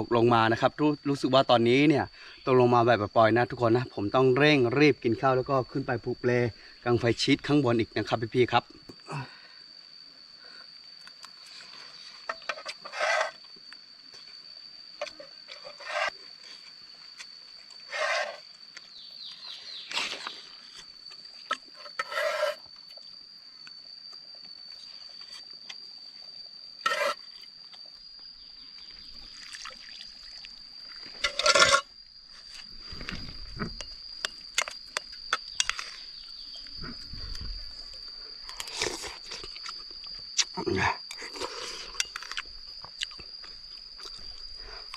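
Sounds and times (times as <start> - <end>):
high-pitched insect drone: 0.0 - 44.9.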